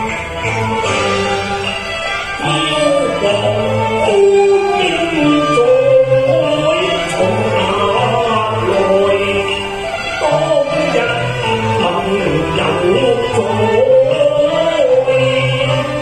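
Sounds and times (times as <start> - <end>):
ornamented opera singing melody: 0.0 - 16.0.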